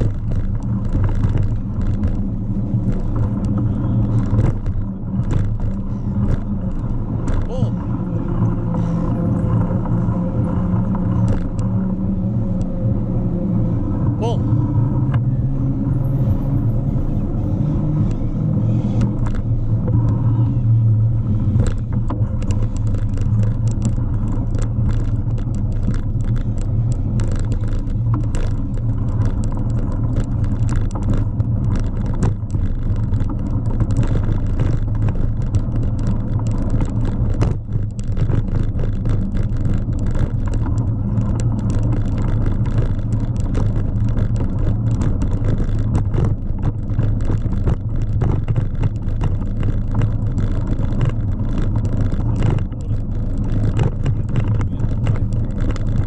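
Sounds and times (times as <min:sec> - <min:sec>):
tyre and wind rumble: 0:00.0 - 0:56.0.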